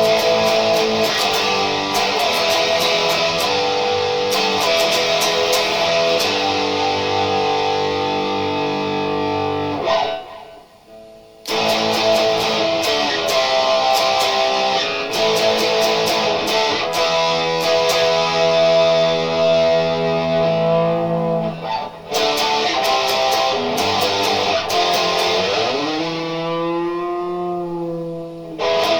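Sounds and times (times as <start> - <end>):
electric guitar chords: 0.0 - 28.9.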